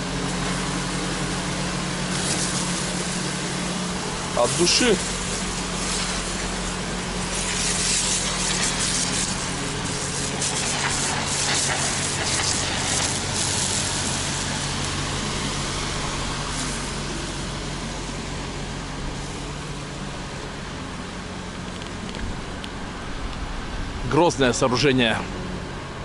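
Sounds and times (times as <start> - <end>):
water spray hissing on paving: 0.0 - 23.8
washing machine engine running: 0.0 - 26.0.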